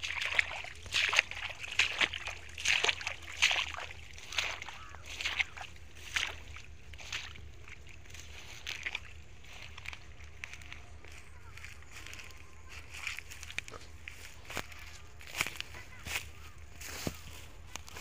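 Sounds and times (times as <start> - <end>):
footsteps through dry grass: 0.0 - 18.0.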